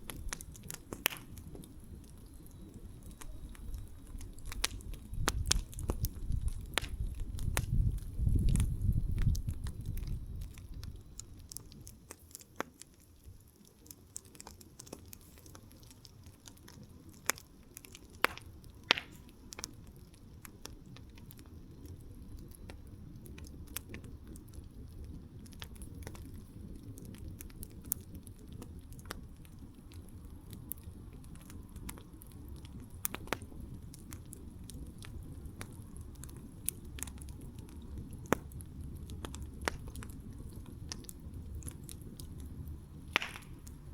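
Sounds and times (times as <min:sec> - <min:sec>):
campfire crackling: 0:00.0 - 0:43.9
low rumble of flames: 0:00.0 - 0:43.9.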